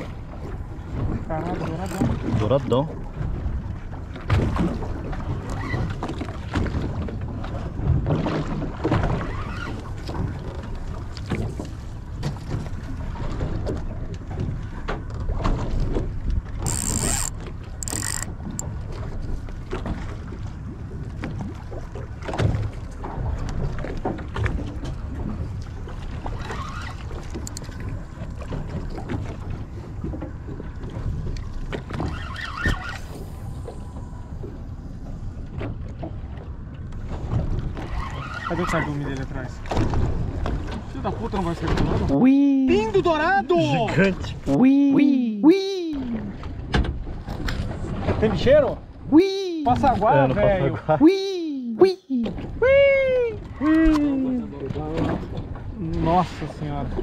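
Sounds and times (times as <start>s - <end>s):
sea noise: 0.0s - 57.0s.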